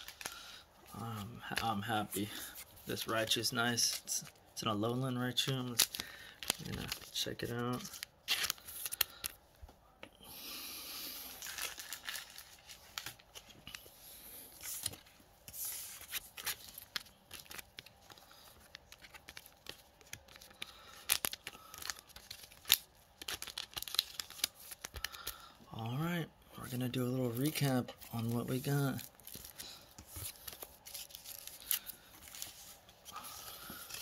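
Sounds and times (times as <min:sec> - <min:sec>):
plastic card sleeves crinkling: 0:00.0 - 0:09.4, 0:11.2 - 0:25.6, 0:26.6 - 0:34.0.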